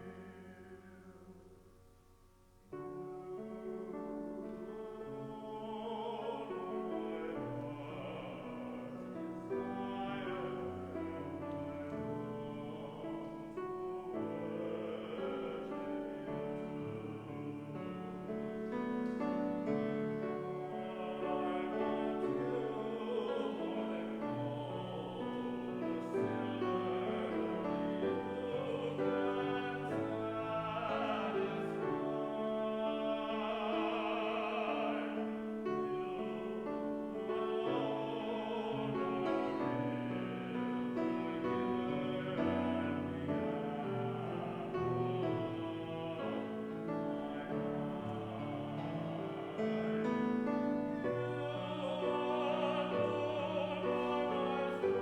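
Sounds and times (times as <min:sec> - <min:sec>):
slow church keyboard music: 0:00.0 - 0:55.0.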